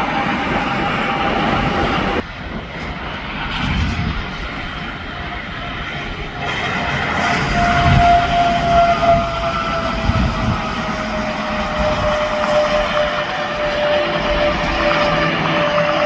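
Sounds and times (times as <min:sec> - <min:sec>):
steady whine sinking in pitch: 0:00.0 - 0:16.0.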